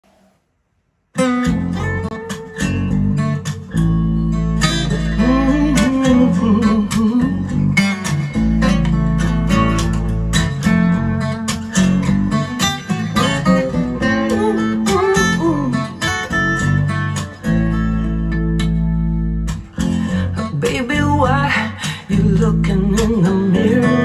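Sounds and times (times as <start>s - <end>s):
acoustic guitar: 1.1s - 24.0s
bass: 1.2s - 24.0s
pop song through loudspeakers: 1.5s - 24.0s.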